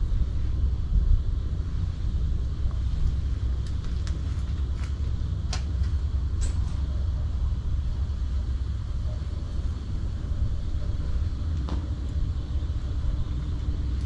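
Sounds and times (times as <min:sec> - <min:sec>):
wind buffeting the microphone: 0:00.0 - 0:14.0.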